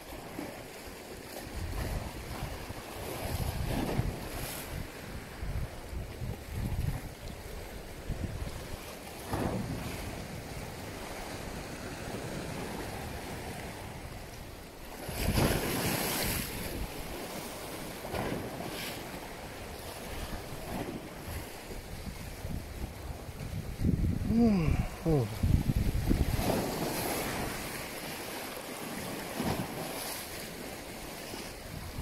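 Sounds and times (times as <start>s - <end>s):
choppy sea water: 0.0s - 32.0s
wind buffeting microphone: 1.3s - 28.2s, 31.1s - 32.0s.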